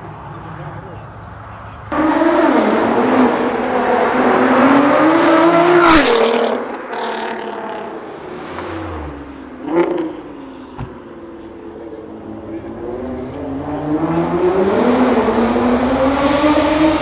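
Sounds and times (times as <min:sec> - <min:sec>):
sports car accelerating: 0:01.7 - 0:17.0.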